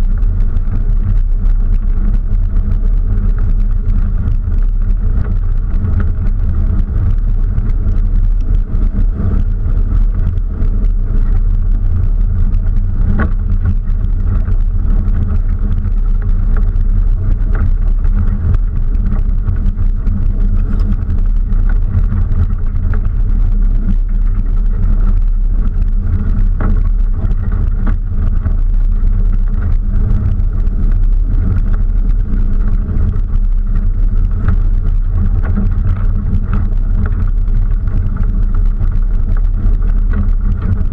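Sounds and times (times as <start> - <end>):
vehicle engine low rumble: 0.0 - 40.9.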